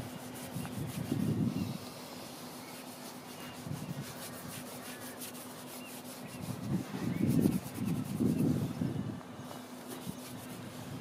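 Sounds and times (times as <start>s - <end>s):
brush rubbing on paper: 0.0s - 8.9s, 9.5s - 11.0s.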